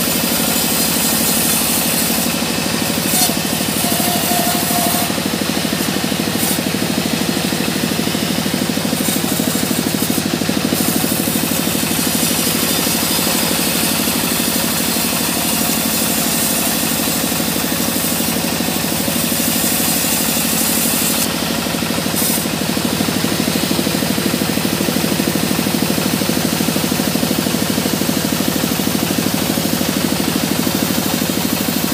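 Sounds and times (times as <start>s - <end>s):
band saw cutting wood: 0.0s - 31.9s.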